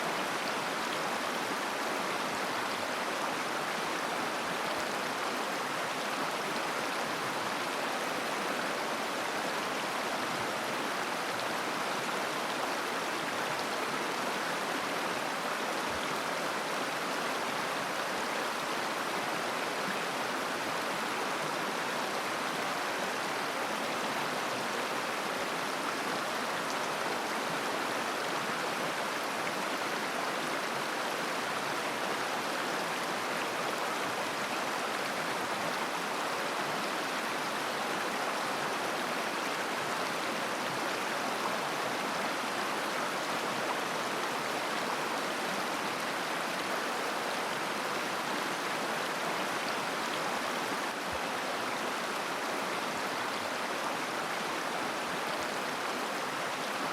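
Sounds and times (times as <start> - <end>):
river babbling over stones: 0.0 - 56.9.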